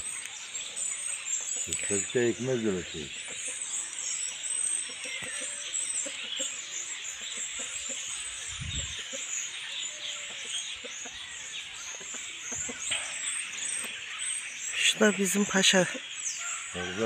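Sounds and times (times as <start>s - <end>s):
starlings chattering and chirping: 0.0s - 17.0s.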